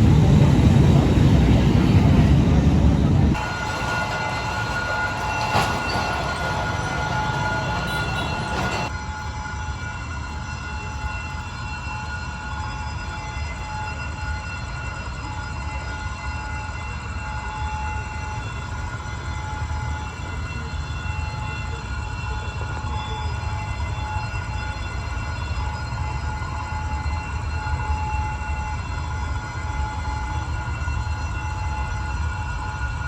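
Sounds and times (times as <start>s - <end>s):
thin steady whine: 0.0s - 33.0s
train running rumble: 0.0s - 33.0s.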